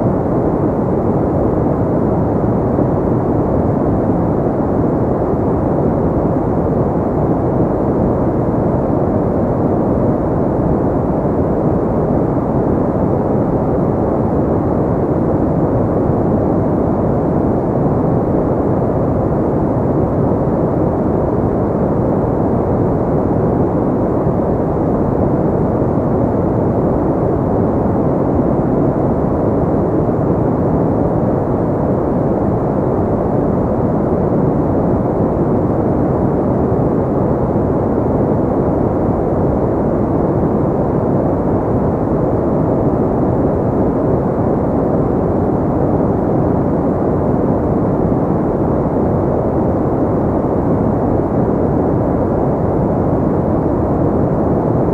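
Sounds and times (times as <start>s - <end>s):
deep muffled brown noise: 0.0s - 54.9s.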